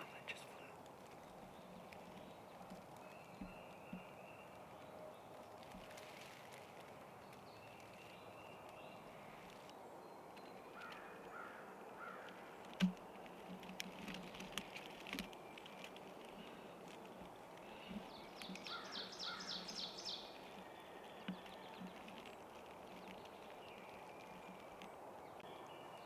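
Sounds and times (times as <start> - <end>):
faint outdoor ambience: 0.0 - 26.0
small birds chirping: 0.0 - 26.0.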